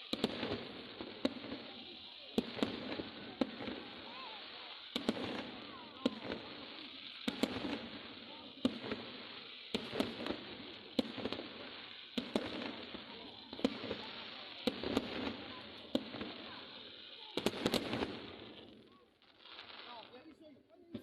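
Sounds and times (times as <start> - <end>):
fireworks bursting: 0.0 - 21.0
fireworks crackle: 0.0 - 21.0.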